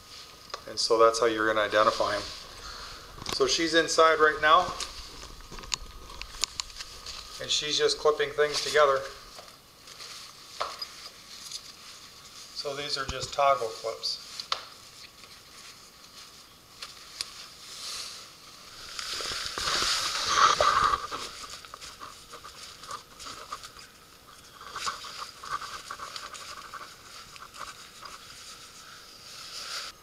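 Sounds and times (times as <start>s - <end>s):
tent fabric rustling: 1.2s - 9.2s, 11.2s - 30.0s.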